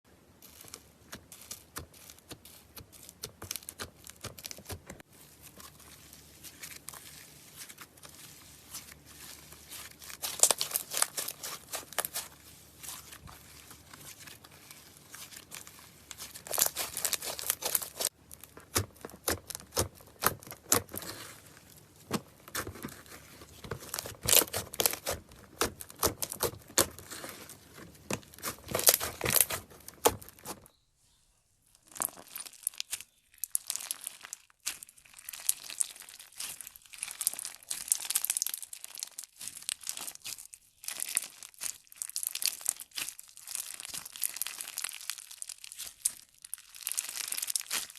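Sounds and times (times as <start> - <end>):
crunchy slime crackling: 0.3 - 30.7, 31.7 - 47.9.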